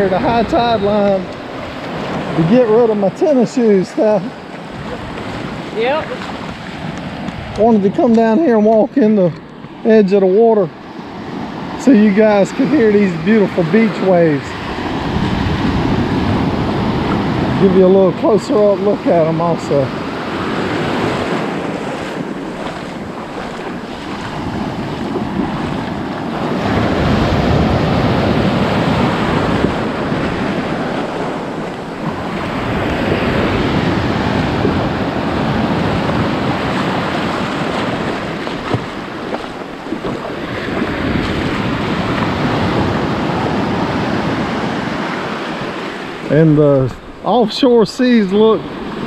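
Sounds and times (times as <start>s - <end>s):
ocean surf breaking: 0.0s - 49.0s
wind buffeting microphone: 0.0s - 49.0s.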